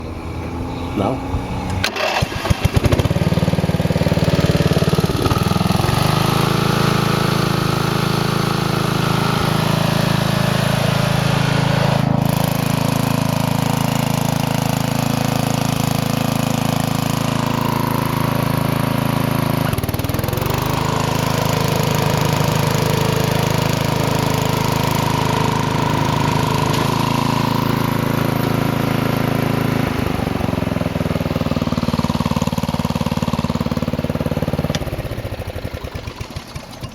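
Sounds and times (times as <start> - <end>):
lawn mower engine running: 0.0 - 36.9.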